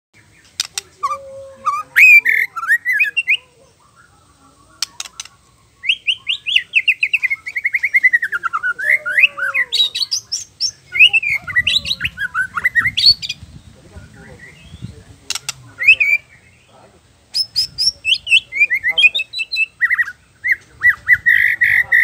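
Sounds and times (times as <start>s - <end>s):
bird singing whistled phrases: 0.7s - 15.0s, 15.8s - 16.7s, 17.4s - 22.0s.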